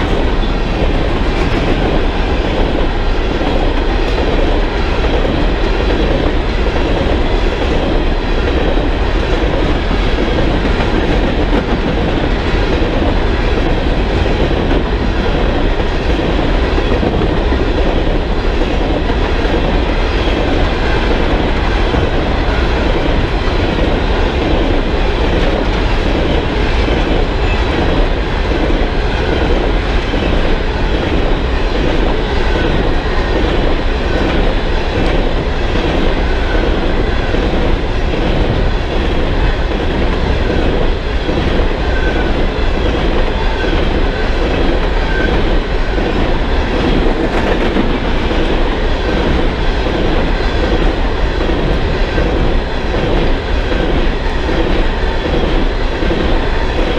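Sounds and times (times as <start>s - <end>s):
freight train wheels clacking: 0.0s - 56.9s.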